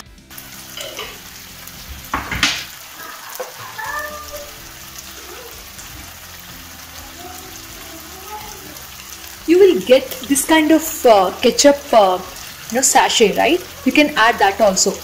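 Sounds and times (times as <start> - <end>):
vegetables sizzling in a wok: 0.0 - 15.0.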